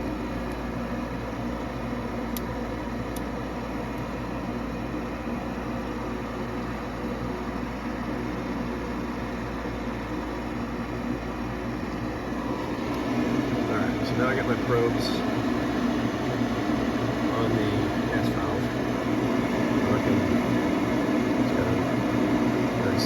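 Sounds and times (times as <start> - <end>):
furnace motor humming: 0.0 - 23.0.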